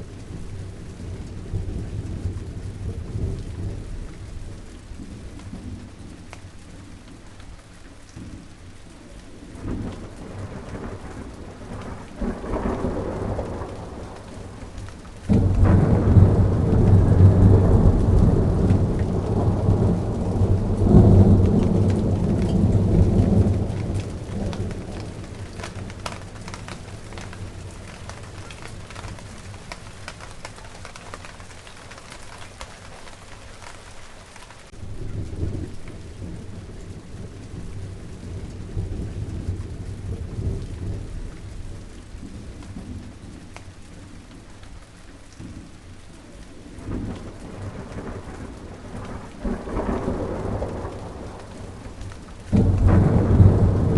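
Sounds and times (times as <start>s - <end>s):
thunder rumbling: 0.0s - 7.5s, 8.1s - 33.9s, 34.6s - 44.7s, 45.4s - 53.9s
steady rain falling: 0.0s - 53.9s.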